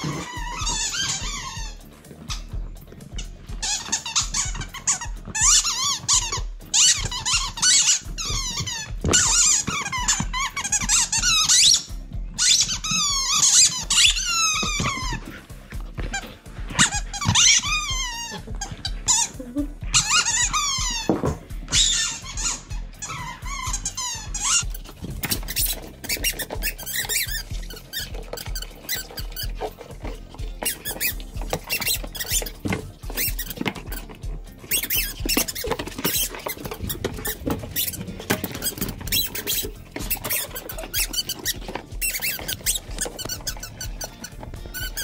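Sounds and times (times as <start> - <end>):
dog chewing toy: 0.0 - 45.0
squeaky toy squeaking: 0.0 - 45.0.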